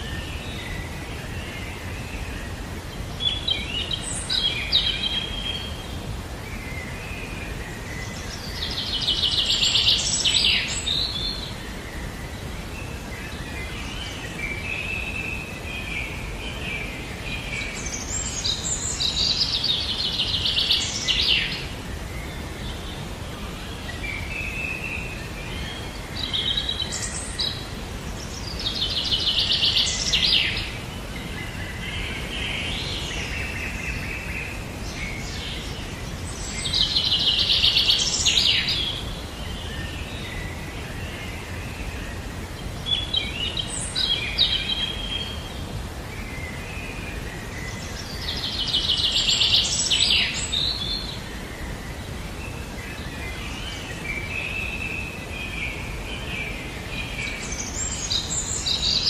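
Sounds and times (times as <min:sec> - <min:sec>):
low background noise: 0:00.0 - 0:59.0.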